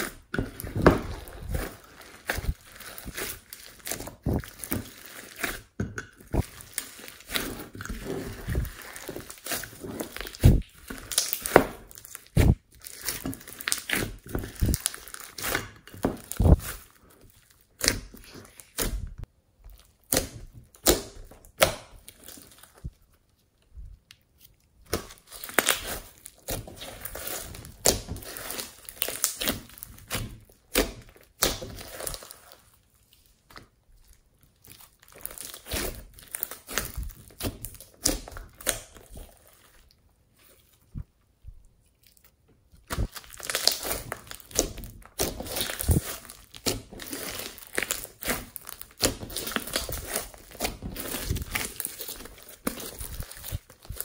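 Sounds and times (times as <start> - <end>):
slime squished by hand: 0.0 - 23.0, 24.0 - 54.0.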